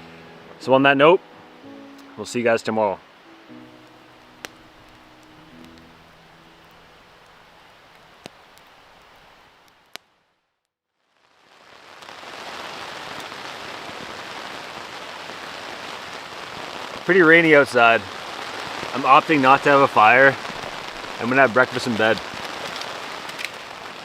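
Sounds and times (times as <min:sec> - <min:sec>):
quiet hiss: 0:00.0 - 0:10.4, 0:11.1 - 0:24.0
steady rain: 0:00.0 - 0:10.4, 0:11.0 - 0:24.0.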